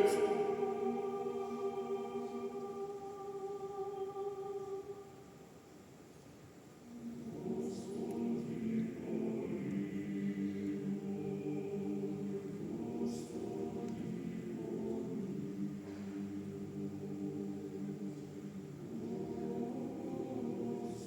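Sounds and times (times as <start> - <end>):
men's choir singing chords: 0.0 - 5.2, 6.9 - 21.0.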